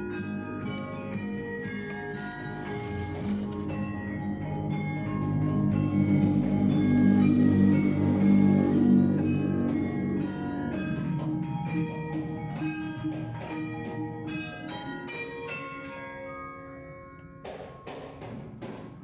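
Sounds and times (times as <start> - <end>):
bell-like music notes: 0.0 - 19.0.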